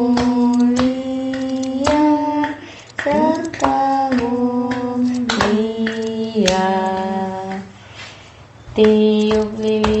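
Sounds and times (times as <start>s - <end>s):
person singing a birthday song: 0.0s - 10.0s.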